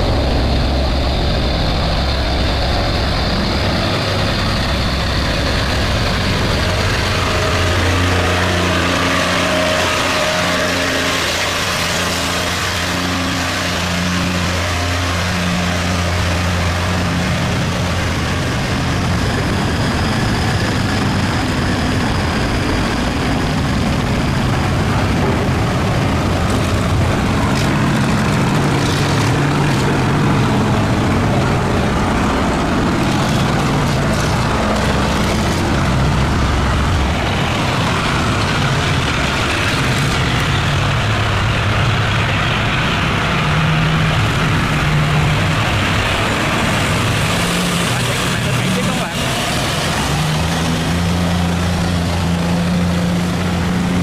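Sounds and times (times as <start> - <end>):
boat engines running: 0.0 - 54.0.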